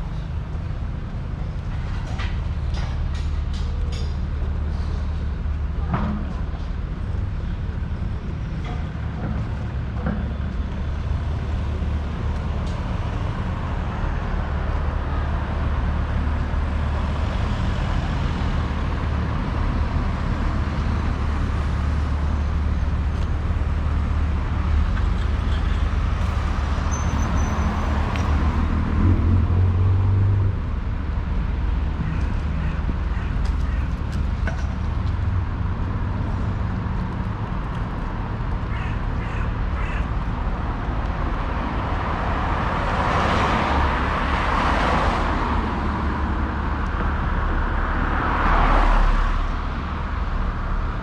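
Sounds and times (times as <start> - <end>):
steady low traffic rumble: 0.0 - 51.0
cars driving past: 8.0 - 51.0.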